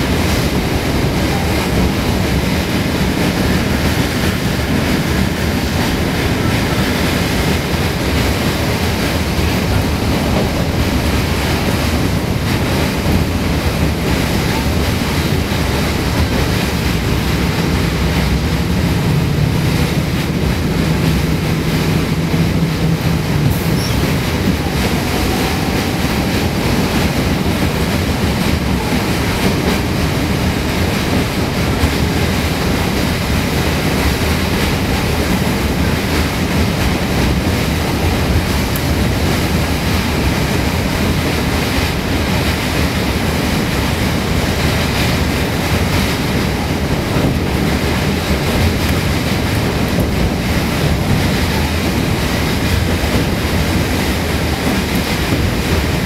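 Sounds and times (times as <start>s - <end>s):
train rumbling and rattling: 0.0s - 56.0s.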